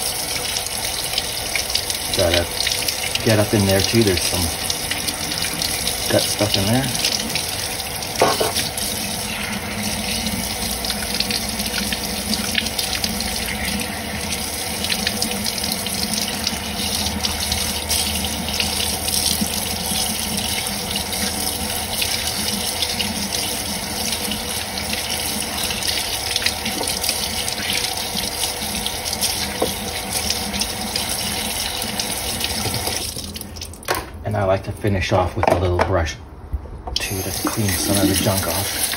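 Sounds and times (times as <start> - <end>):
faucet running into sink: 0.0 - 34.0, 37.0 - 38.9.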